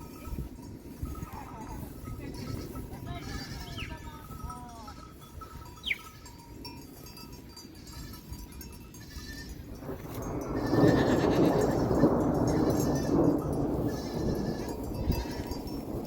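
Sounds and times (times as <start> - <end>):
sheep and goats bleating: 0.0 - 15.8.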